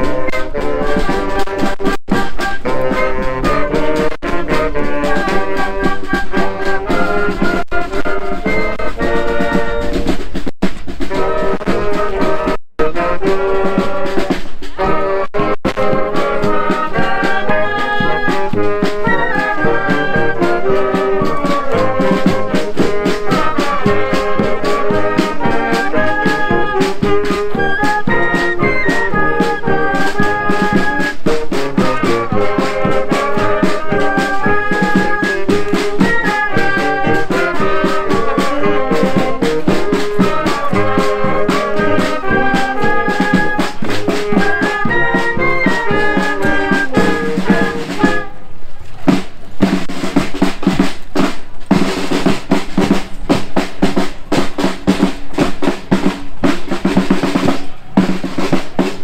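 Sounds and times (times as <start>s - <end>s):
wind band playing: 0.0s - 59.0s.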